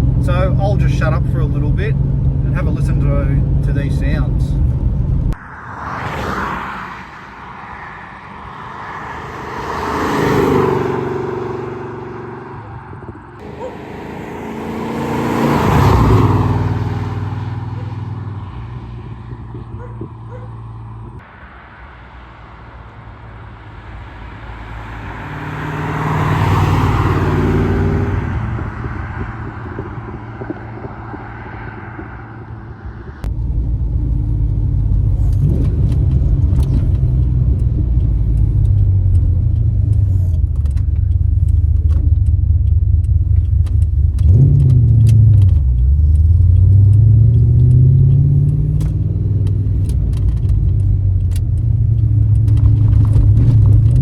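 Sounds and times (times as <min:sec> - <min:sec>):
car engine revving: 0:00.0 - 0:21.2, 0:22.9 - 0:54.0.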